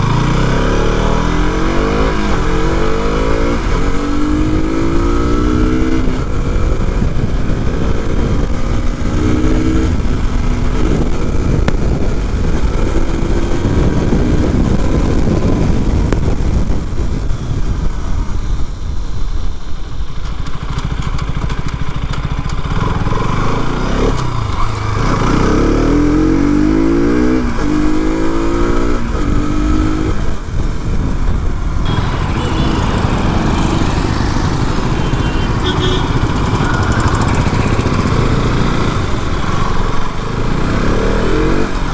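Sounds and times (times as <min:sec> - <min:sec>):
motorcycle engine accelerating: 0:00.0 - 0:41.9
steady rushing noise: 0:00.0 - 0:41.9.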